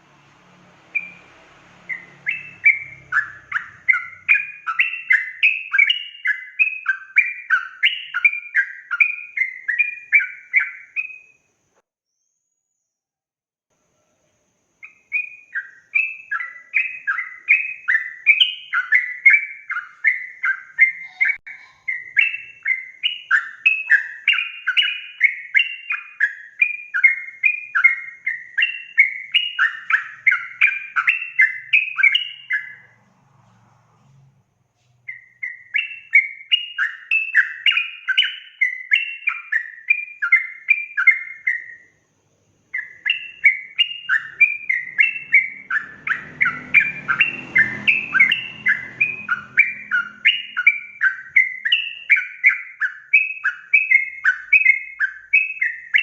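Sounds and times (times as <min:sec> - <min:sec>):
bird singing bubbling chirps: 0:01.9 - 0:11.4, 0:14.8 - 0:33.0, 0:35.1 - 0:41.9, 0:42.7 - 0:56.0.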